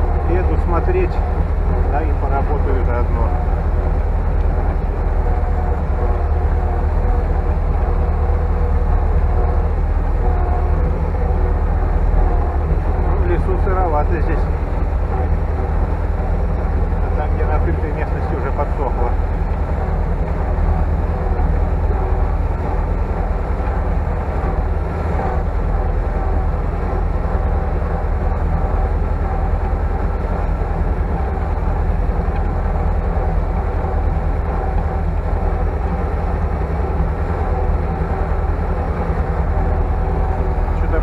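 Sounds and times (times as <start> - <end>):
tractor engine droning: 0.0 - 41.0.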